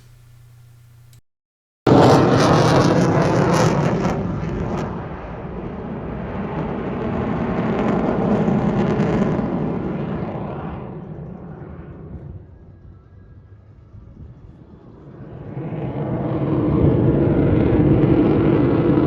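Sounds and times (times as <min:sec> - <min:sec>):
jet engine roar: 0:01.9 - 0:12.7, 0:14.2 - 0:19.0.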